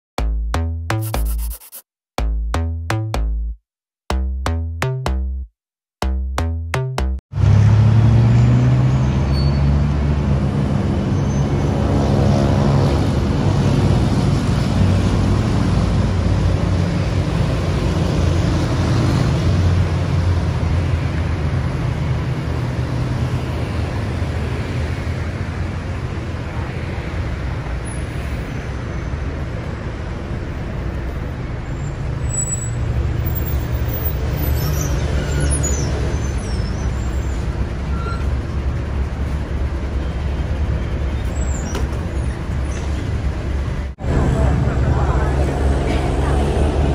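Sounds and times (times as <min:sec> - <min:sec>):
vehicle engines humming: 0:07.4 - 0:46.9.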